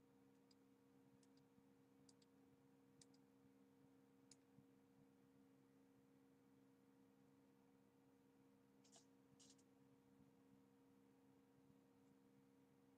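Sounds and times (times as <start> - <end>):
faint electrical hum: 0.0 - 12.9.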